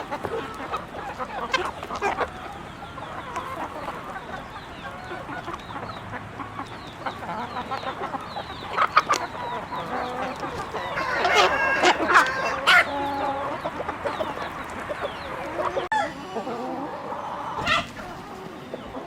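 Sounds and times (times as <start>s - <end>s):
chickens clucking and chirping: 0.0s - 19.0s.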